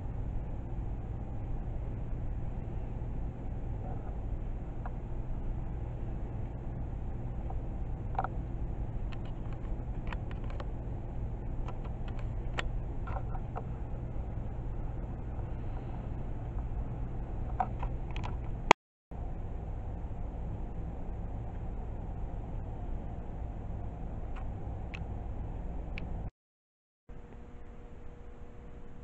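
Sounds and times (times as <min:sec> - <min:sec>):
low room hum: 0:00.0 - 0:26.3, 0:27.1 - 0:29.0.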